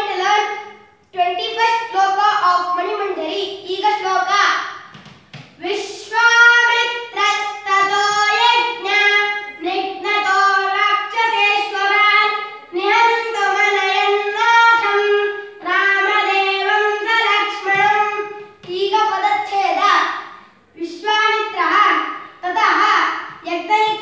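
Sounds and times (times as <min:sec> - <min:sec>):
boy chanting a sung verse: 0:00.0 - 0:04.9, 0:05.6 - 0:24.0.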